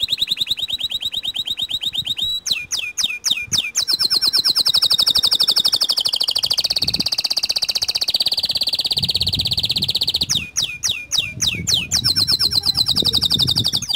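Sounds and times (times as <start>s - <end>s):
canary singing: 0.0s - 13.9s.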